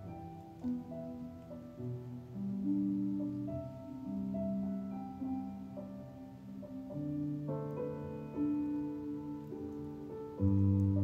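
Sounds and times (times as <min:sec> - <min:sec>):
gentle keyboard music: 0:00.0 - 0:11.0.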